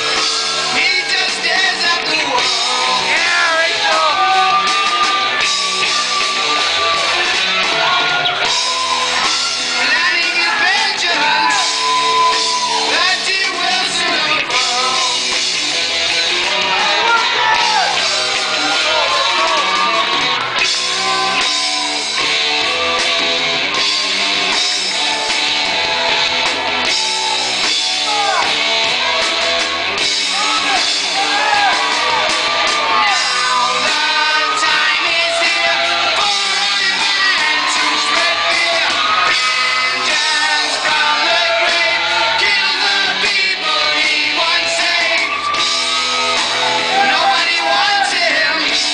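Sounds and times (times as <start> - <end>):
people shouting and yelling: 0.0 - 48.9
rock music with singing: 0.0 - 48.9.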